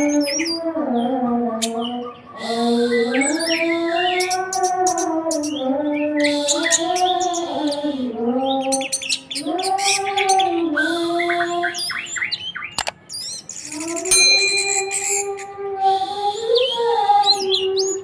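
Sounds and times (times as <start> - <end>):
bird chirping and trilling: 1.6 - 18.0.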